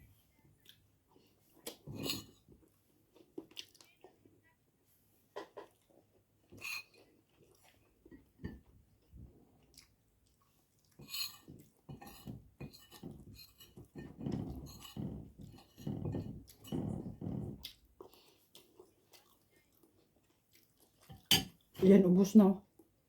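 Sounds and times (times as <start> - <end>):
person chewing food: 0.6 - 4.2, 5.4 - 21.8.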